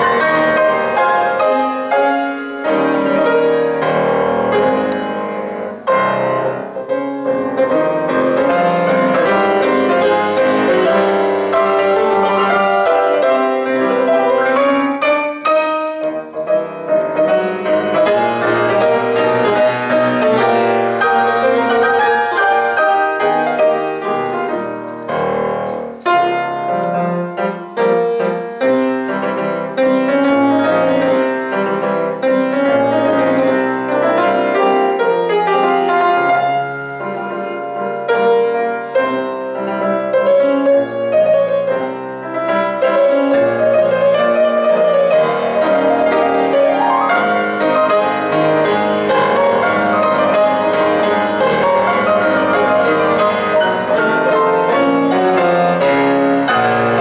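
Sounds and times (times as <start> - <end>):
fast classical piano: 0.0 - 57.0.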